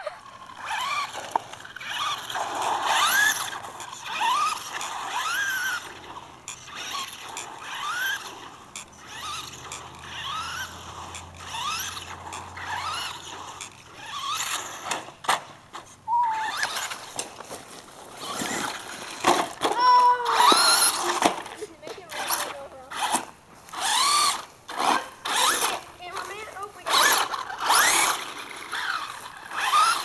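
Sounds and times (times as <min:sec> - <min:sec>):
toy car electric motor whining: 0:00.0 - 0:30.0.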